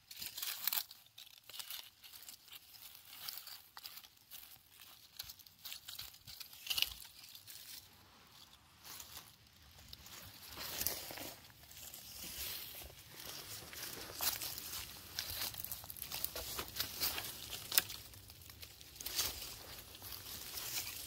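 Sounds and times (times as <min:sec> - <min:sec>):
rustling and crunching dry material: 0:00.0 - 0:21.0.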